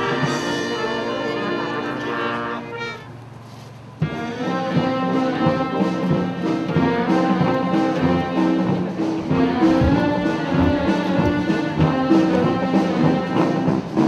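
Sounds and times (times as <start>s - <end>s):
brass band playing: 0.0s - 3.2s, 4.0s - 14.0s.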